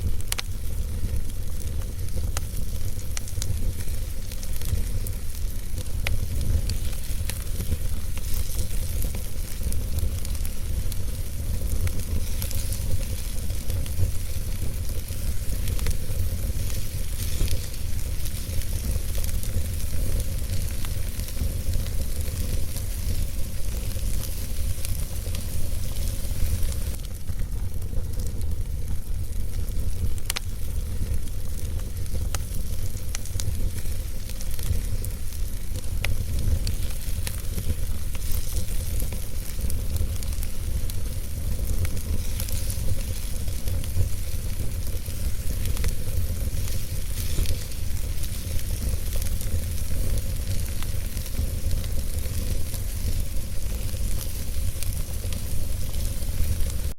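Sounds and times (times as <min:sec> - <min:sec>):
fire crackling and popping: 0:00.0 - 0:56.9
low rumble of flames: 0:00.0 - 0:56.9.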